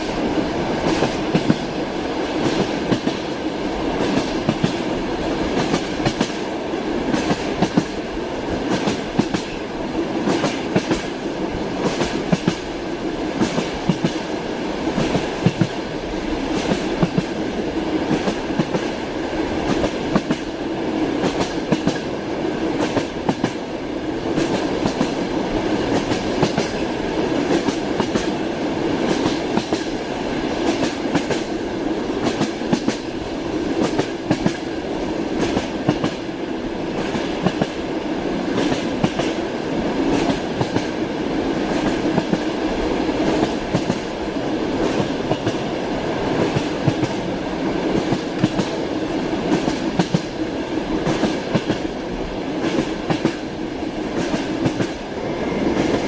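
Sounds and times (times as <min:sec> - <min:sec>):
train rumbling at speed: 0:00.0 - 0:56.0.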